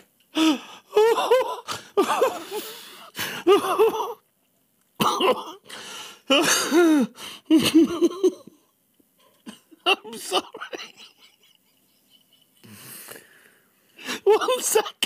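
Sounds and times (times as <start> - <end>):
men wheezing laughter: 0.4 - 4.2, 5.1 - 8.6, 9.3 - 13.0, 14.0 - 15.0.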